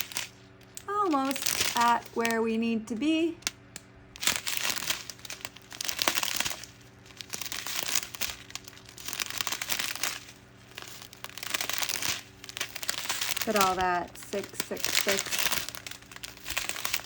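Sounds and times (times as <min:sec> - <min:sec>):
plastic bags crinkling: 0:00.0 - 0:03.4, 0:04.2 - 0:17.0.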